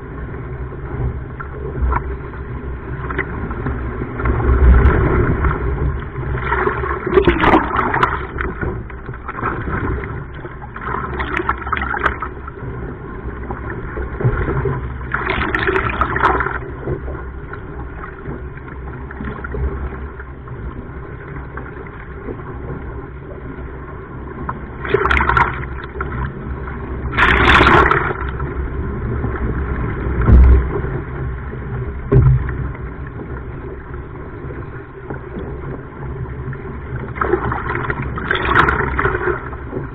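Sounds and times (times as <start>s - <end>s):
sea water splashing: 0.0s - 39.9s
wind rumble on microphone: 0.0s - 39.9s.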